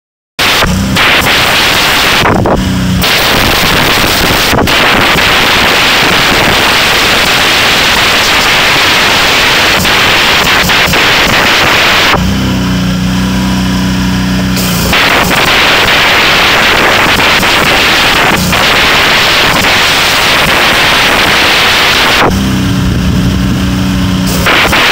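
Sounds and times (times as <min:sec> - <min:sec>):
pressure washer jet hissing: 0:00.4 - 0:12.3, 0:13.8 - 0:22.7, 0:23.4 - 0:24.9.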